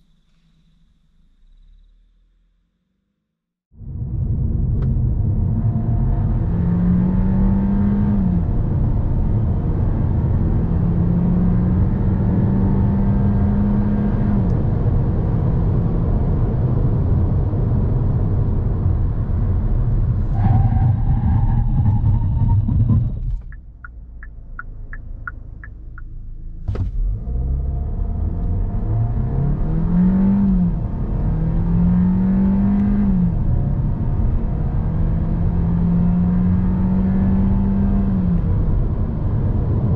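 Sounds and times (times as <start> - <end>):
car engine accelerating: 3.8 - 39.9.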